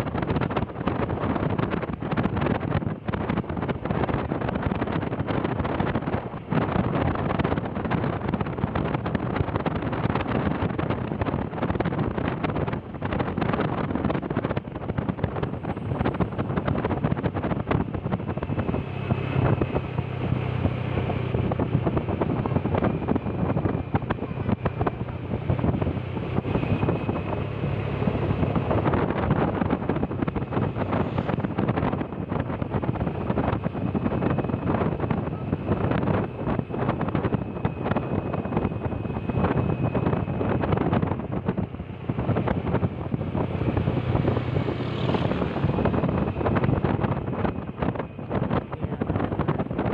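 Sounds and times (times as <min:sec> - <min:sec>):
engine and road noise: 0:00.0 - 0:49.9
low hum: 0:00.0 - 0:49.9
wind buffeting microphone: 0:00.0 - 0:49.9
faint whine: 0:02.7 - 0:49.9.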